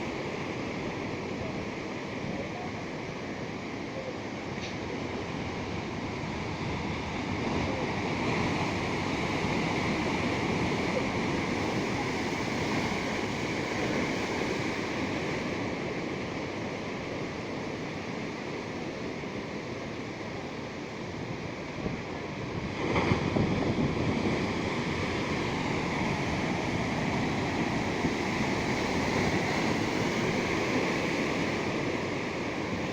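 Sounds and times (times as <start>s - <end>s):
ocean waves washing ashore: 0.0s - 32.9s.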